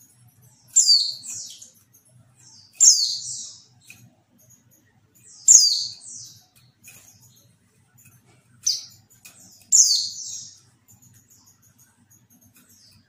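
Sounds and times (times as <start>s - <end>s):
bird high chirps: 0.1s - 13.0s.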